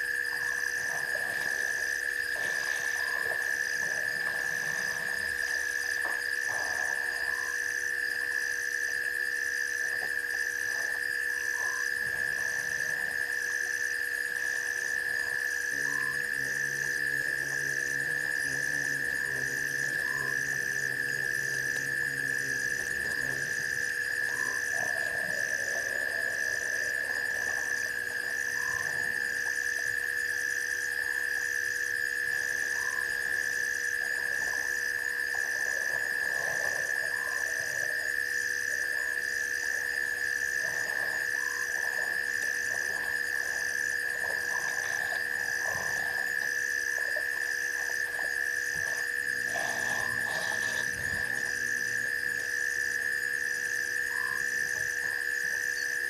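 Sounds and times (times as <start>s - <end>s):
frogs croaking: 0.0s - 56.0s
high-pitched insect trill: 0.0s - 56.0s.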